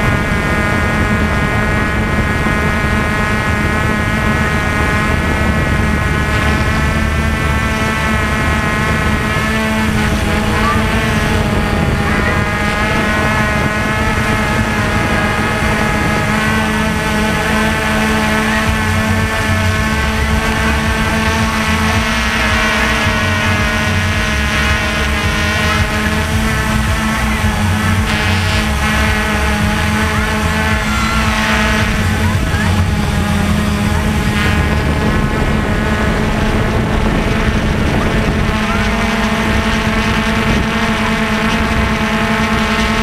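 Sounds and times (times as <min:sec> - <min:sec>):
drone propellers whining: 0:00.0 - 0:43.0.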